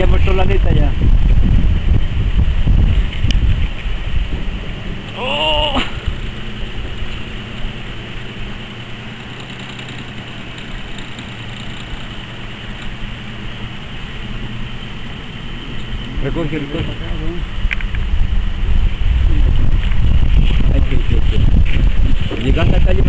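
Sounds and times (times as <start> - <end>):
motor idling hum: 0.0 - 23.0
steady rushing noise: 0.0 - 23.0.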